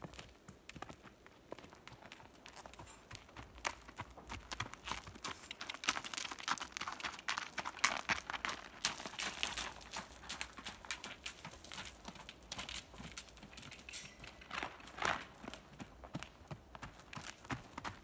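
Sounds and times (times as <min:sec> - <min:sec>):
horse hoofbeats on gravelly dirt: 0:00.0 - 0:18.0.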